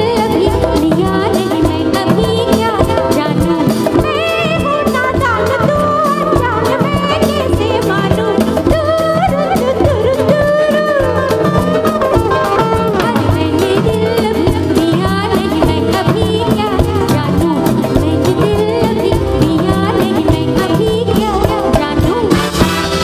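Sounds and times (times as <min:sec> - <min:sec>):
drum and percussion beat: 0:00.0 - 0:23.0
live band playing: 0:00.0 - 0:23.0
woman singing: 0:00.0 - 0:23.0.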